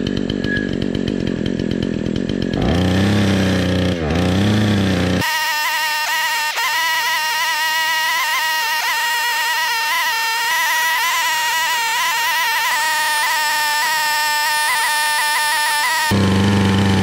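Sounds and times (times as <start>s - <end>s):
chainsaw cutting through log: 0.0s - 17.0s.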